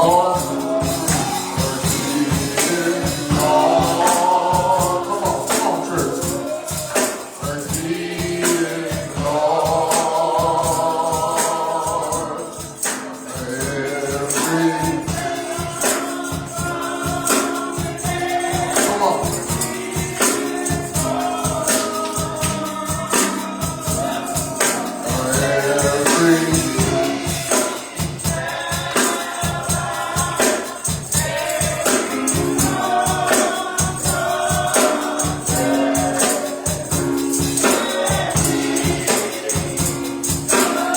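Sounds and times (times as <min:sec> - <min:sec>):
band accompaniment: 0:00.0 - 0:40.9
driving percussion beat: 0:00.0 - 0:40.9
gospel choir singing: 0:00.0 - 0:40.9.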